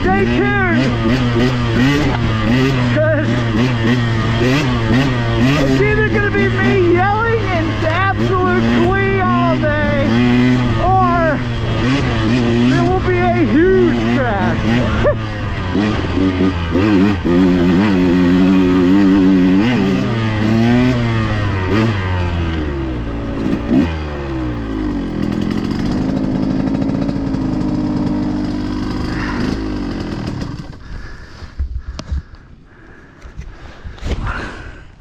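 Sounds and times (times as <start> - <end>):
dirt bike engine revving: 0.0 - 31.4.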